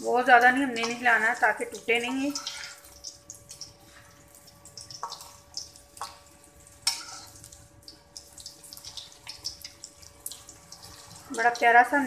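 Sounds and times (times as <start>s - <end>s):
crackles and pops of frying: 0.0s - 12.0s
faint steady hum: 0.0s - 12.0s
food deep-frying in oil: 0.0s - 12.0s.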